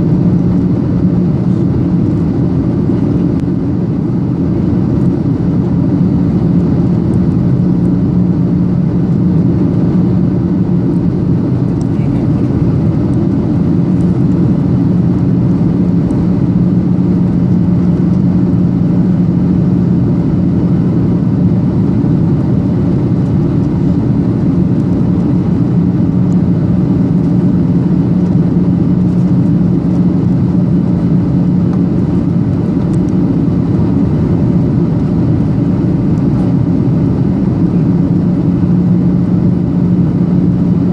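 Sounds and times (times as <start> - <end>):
jet engines droning: 0.0 - 40.9
steady low hum: 0.0 - 40.9.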